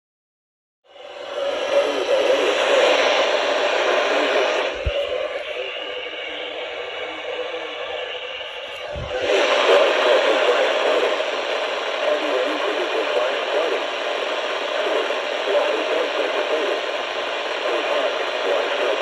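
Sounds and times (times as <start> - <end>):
radio static hiss: 1.0 - 19.0.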